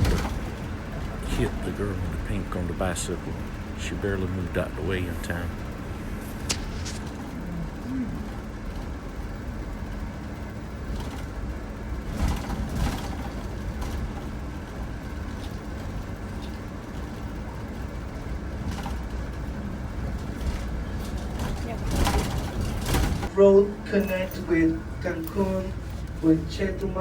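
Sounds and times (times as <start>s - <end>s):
vehicle engine and road rumble: 0.0s - 27.0s.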